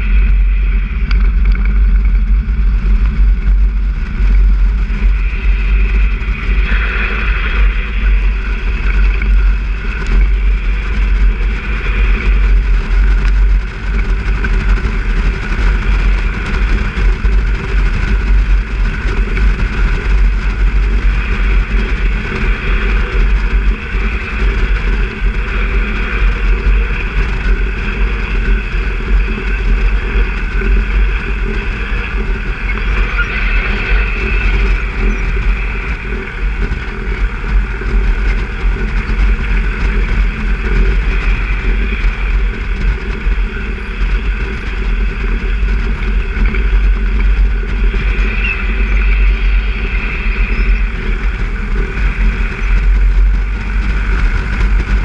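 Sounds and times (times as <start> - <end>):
propeller aircraft engine running: 0.0 - 55.0.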